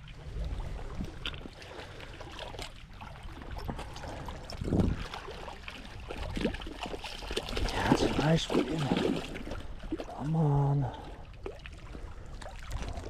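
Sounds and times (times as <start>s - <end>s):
splash: 0.0s - 13.0s
water sloshing and trickling: 0.0s - 13.0s.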